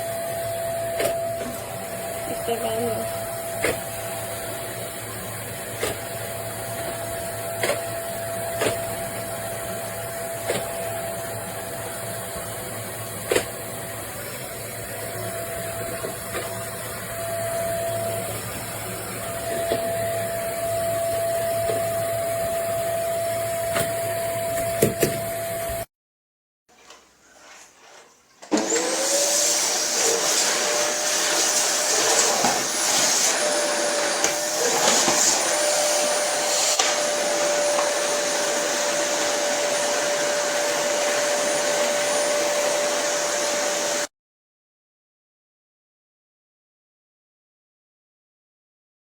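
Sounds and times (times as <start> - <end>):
vacuum cleaner running: 0.0 - 25.9, 28.4 - 44.1.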